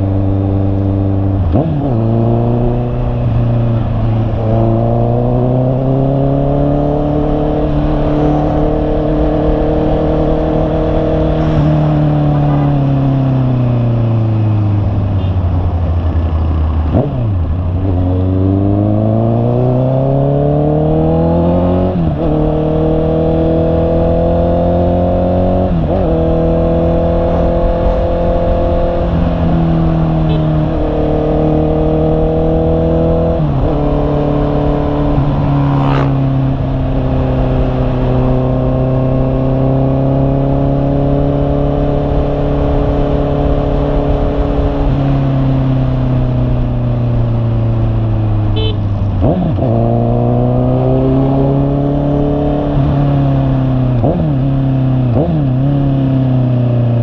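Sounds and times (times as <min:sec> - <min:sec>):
motorcycle engine revving through upshifts: 0:00.0 - 0:57.0.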